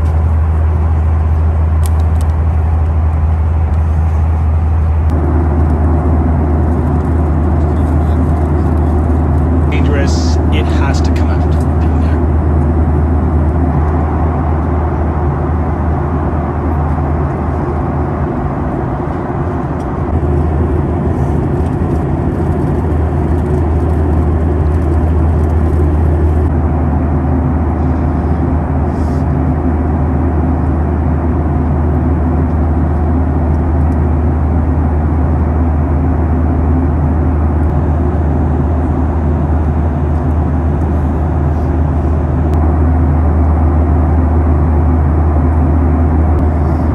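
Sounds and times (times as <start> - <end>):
airplane cabin engine drone: 0.0 - 46.9.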